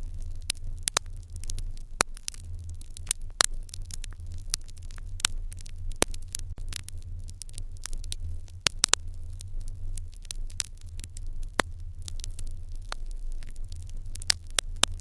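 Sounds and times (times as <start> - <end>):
steady low hum: 0.0 - 15.0
wood fire crackling and popping: 0.0 - 15.0.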